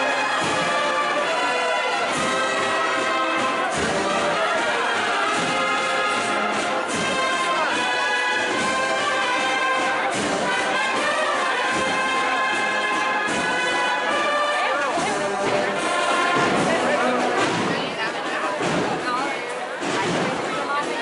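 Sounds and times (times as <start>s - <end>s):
brass band playing a march: 0.0s - 19.1s.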